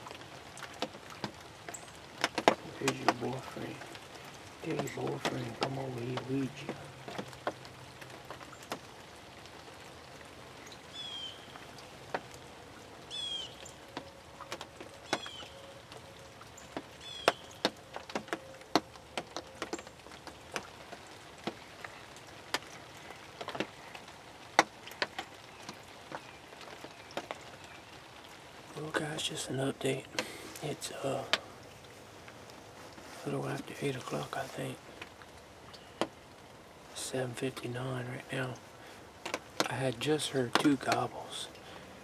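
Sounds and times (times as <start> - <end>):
raindrops tapping on fabric: 0.0 - 42.0.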